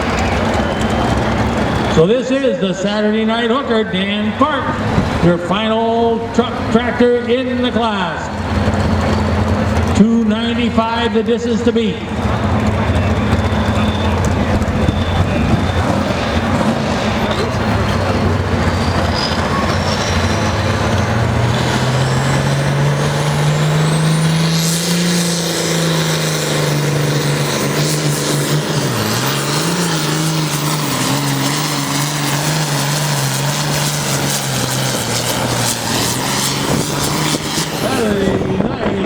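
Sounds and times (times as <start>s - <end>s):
pulling engine running under load: 0.0s - 39.0s.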